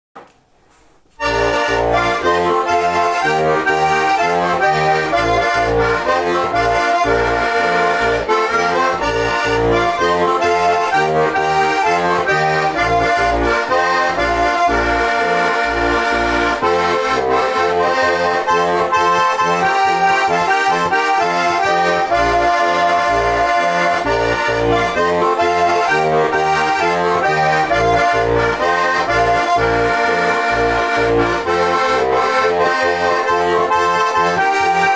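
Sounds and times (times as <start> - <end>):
button accordion folk song: 1.2 - 34.9.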